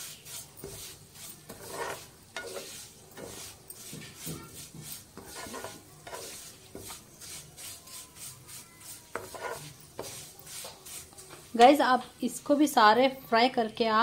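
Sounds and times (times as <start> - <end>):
spoon scraping a pan: 0.0 - 12.5
light sizzle: 0.0 - 13.8.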